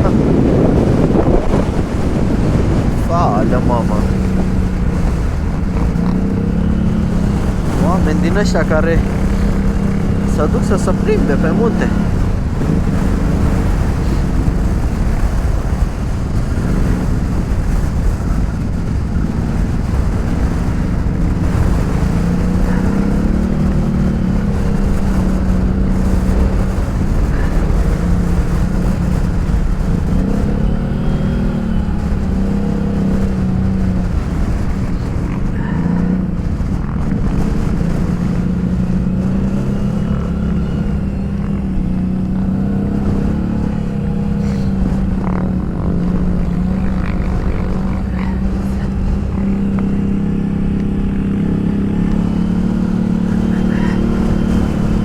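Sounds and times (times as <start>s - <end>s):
atv engine revving under load: 0.0s - 55.0s.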